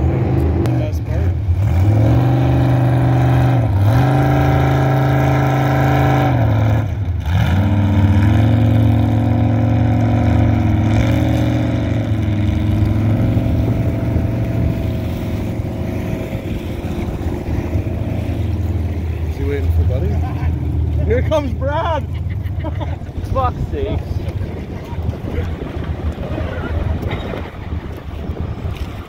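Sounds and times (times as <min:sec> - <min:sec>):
jet boat engine at high revs: 0:00.0 - 0:29.0.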